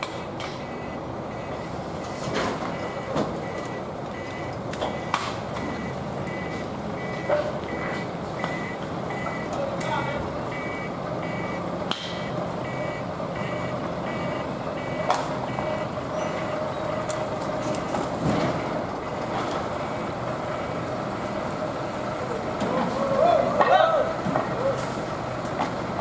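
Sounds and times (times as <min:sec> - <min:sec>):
truck reversing alarm beeping: 0:00.0 - 0:25.4
diesel engine running: 0:00.0 - 0:26.0.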